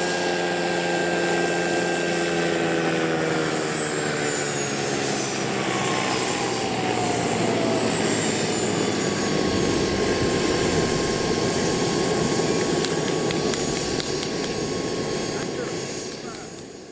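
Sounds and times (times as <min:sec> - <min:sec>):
rotors rushing: 0:00.0 - 0:16.8
model turbine whining: 0:00.0 - 0:16.9.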